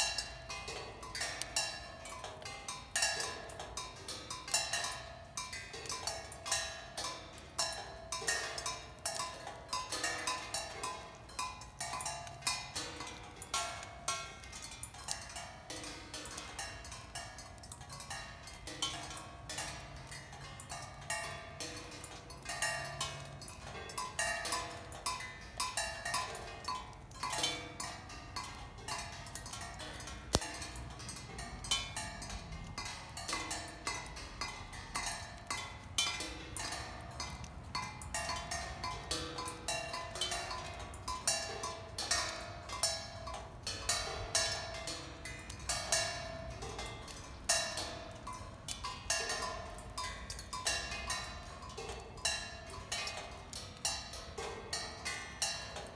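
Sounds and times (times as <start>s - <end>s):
raindrops pinging on cymbals: 0.0s - 55.9s.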